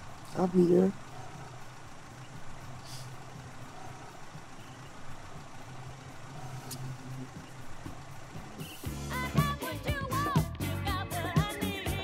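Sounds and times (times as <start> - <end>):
car engine and road hum: 0.0 - 10.6.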